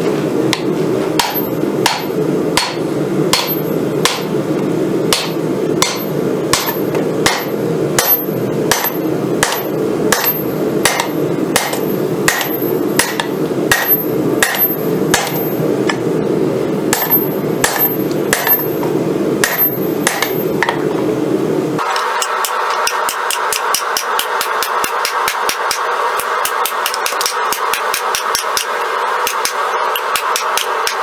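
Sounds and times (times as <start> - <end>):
hammer striking metal on anvil: 0.5 - 4.3, 5.1 - 16.0, 16.9 - 20.9, 22.0 - 31.0.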